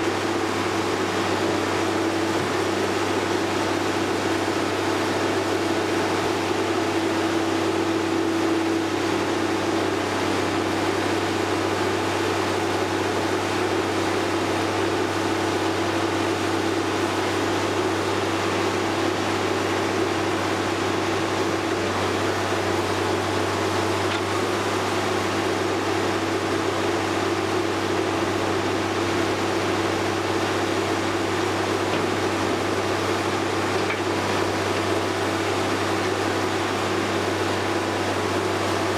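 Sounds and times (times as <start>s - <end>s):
diesel engine hum: 0.0s - 38.9s.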